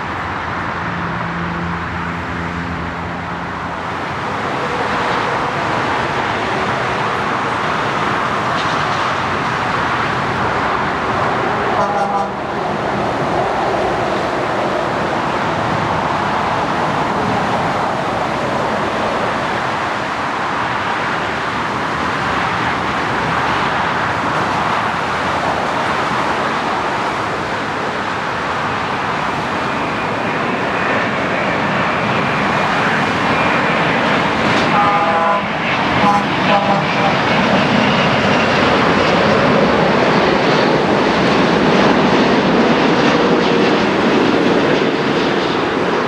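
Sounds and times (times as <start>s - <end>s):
jet airliner passing: 0.0s - 46.0s.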